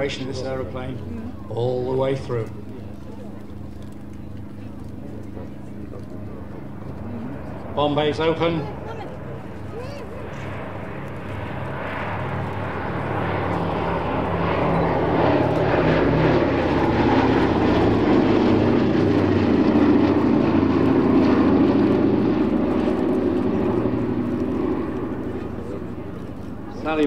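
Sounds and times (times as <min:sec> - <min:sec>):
propeller plane flying past: 0:00.0 - 0:27.0.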